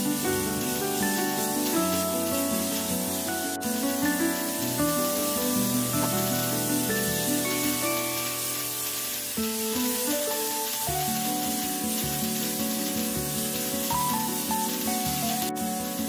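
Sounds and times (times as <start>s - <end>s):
background music melody: 0.0s - 16.0s
greens sizzling in a pan: 0.0s - 16.0s.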